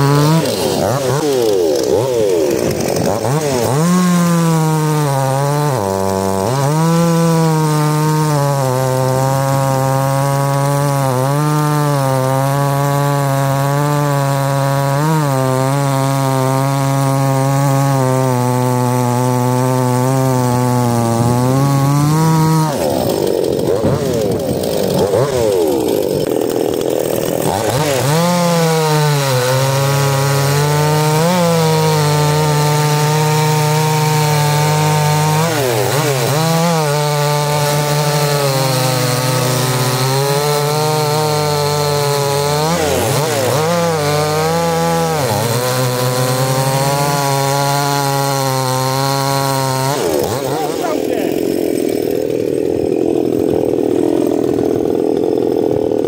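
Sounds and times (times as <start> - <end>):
chainsaws cutting wood: 0.0 - 56.0.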